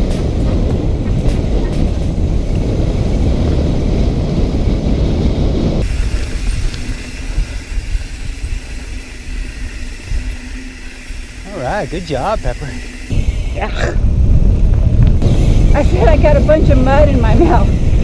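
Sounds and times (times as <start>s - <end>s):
bike trail rumble: 0.0s - 18.0s
wind buffeting: 0.0s - 18.0s.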